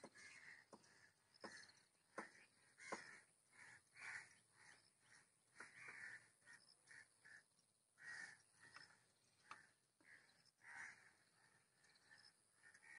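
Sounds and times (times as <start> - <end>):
faint bird calls: 0.0 - 12.9.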